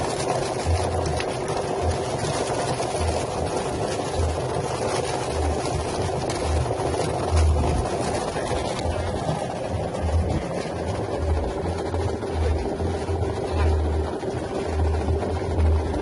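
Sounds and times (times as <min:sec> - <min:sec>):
feather plucker machine running: 0:00.0 - 0:16.0.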